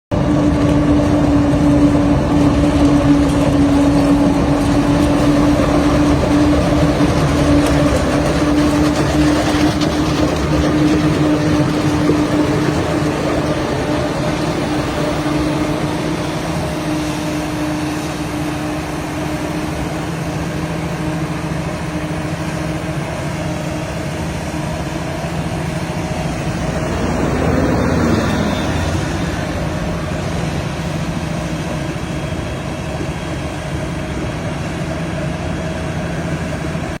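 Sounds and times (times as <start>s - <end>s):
harvesting machinery engine drone: 0.1s - 37.0s.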